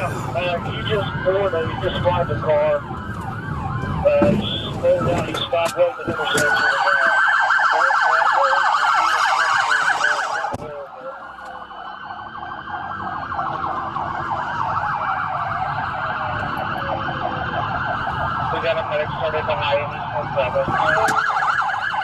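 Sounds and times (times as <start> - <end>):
engine and road rumble: 0.0 - 22.0
police sirens yelping and wailing: 0.0 - 22.0.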